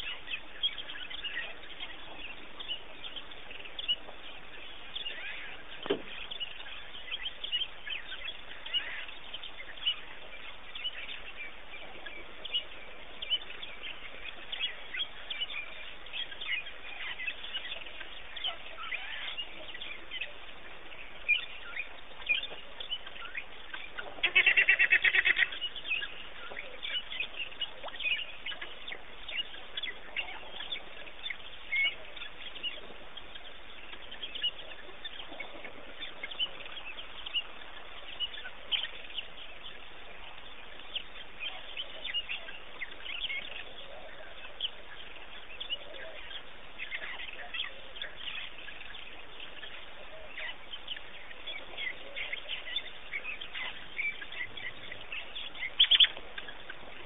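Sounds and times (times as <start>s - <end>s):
rapid pulsed bird calls: 0.0s - 57.0s
wild birds chirping: 0.0s - 57.0s.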